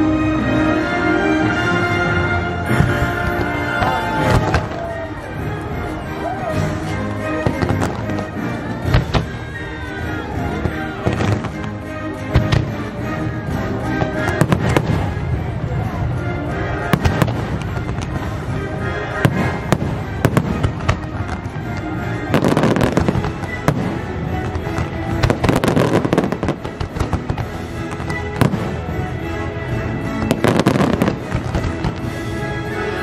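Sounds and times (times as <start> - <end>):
orchestral music: 0.0 - 33.0
fireworks launching and bursting: 2.6 - 33.0.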